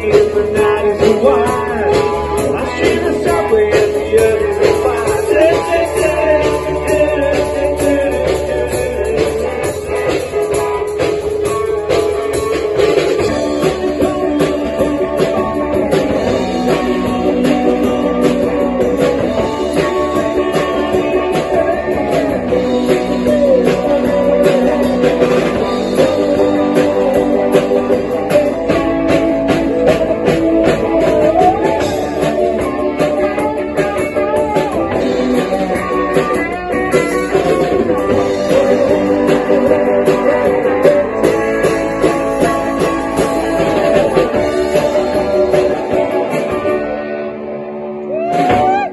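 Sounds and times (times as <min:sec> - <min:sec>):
drum kit beat: 0:00.0 - 0:47.1, 0:48.1 - 0:48.9
electric guitar: 0:00.0 - 0:48.9.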